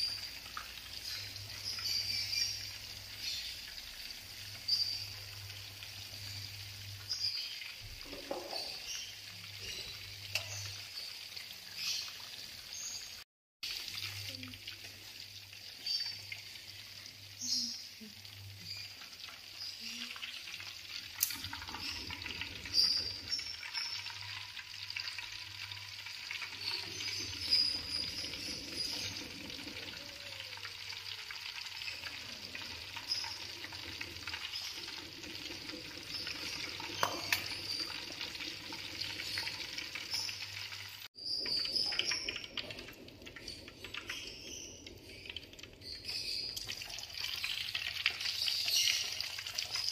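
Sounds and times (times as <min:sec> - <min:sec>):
food deep-frying in oil: 0:00.0 - 0:49.9.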